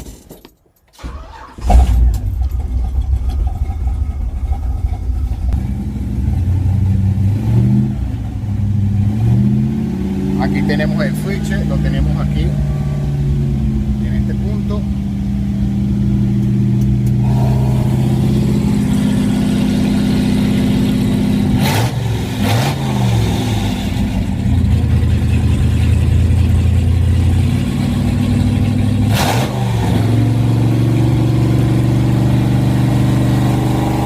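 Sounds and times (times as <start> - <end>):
truck engine idling: 1.0 - 29.1.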